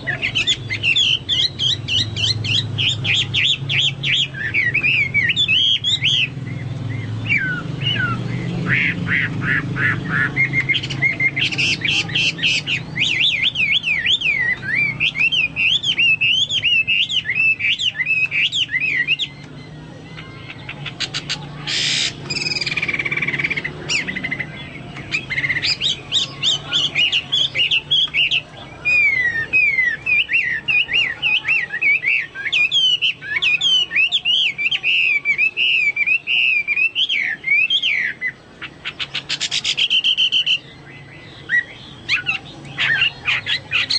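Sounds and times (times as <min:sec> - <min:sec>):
bird singing whistled trills: 0:00.0 - 0:43.9.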